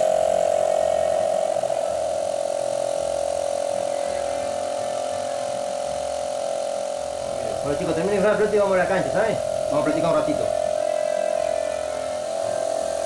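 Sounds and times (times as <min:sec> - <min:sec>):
air compressor humming: 0:00.0 - 0:13.0.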